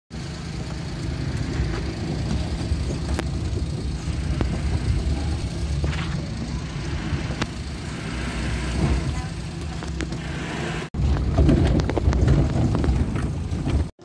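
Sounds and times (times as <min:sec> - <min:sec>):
car engine rumble: 0:00.1 - 0:14.0.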